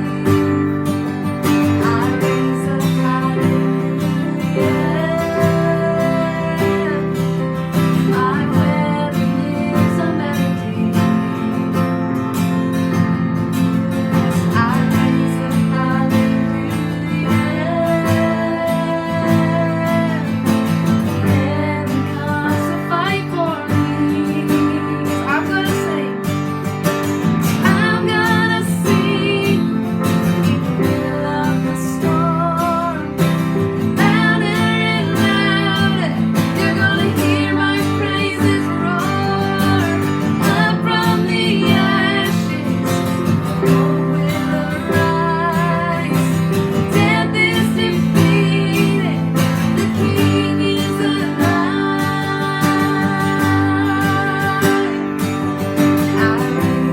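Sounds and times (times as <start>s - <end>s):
person singing: 0.0s - 11.8s, 13.7s - 26.3s, 27.6s - 56.9s
strummed acoustic guitar: 0.0s - 56.9s.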